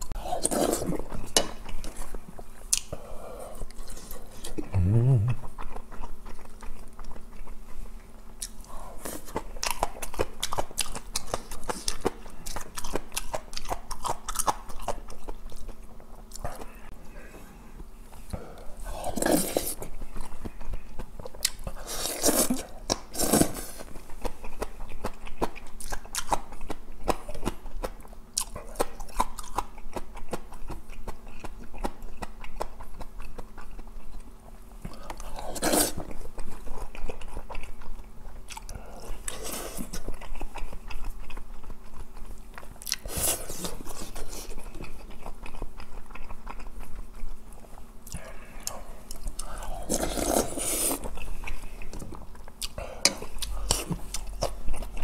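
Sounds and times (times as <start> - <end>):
wet chewing and smacking: 3.6 - 16.8, 18.1 - 55.0.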